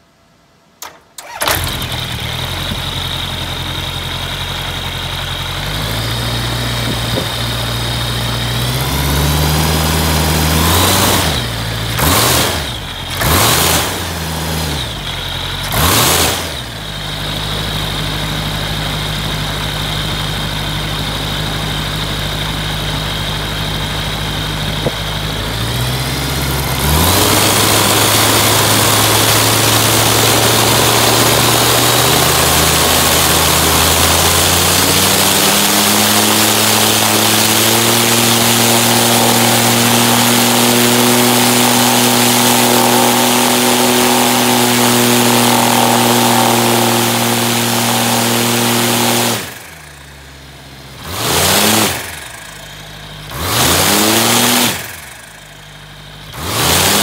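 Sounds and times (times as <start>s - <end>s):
aircraft engine turning propeller: 0.8s - 57.0s.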